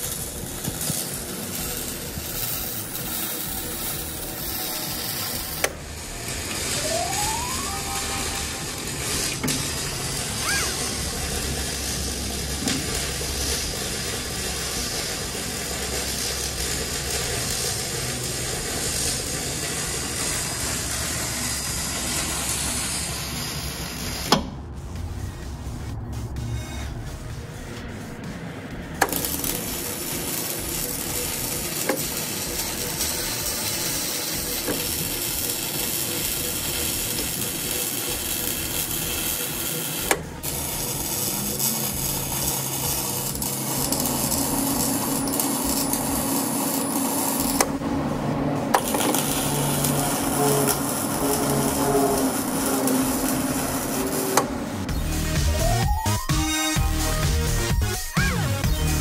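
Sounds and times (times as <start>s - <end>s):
welder arc crackling hiss: 0.0s - 24.6s, 28.8s - 55.8s
faint music: 0.0s - 59.0s.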